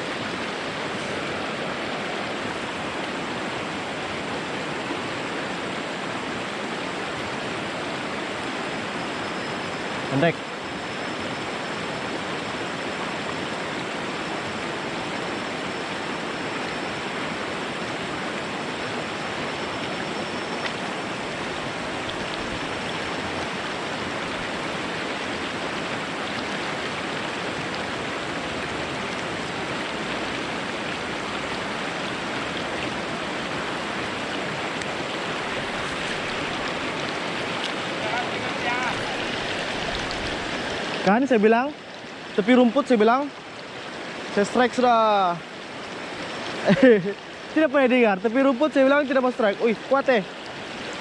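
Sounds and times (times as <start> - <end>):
stream rushing over rocks: 0.0 - 51.0.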